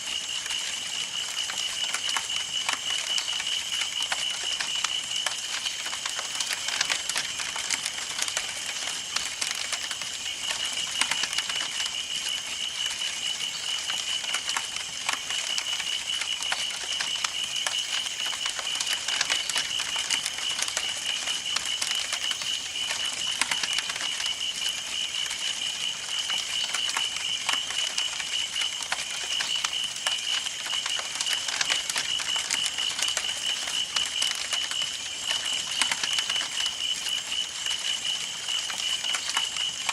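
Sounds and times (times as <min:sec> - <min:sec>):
campfire crackling and popping: 0:00.2 - 0:39.9.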